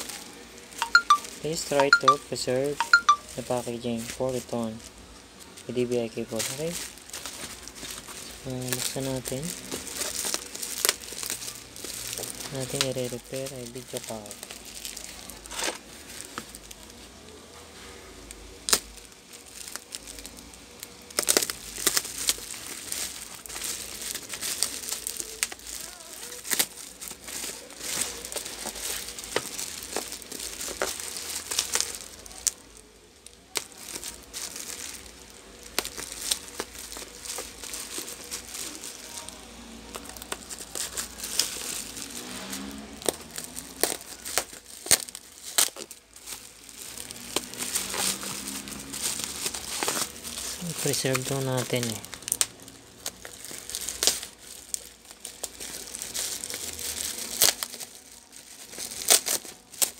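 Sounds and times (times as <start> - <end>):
bubble wrap crackling: 0.0 - 59.9.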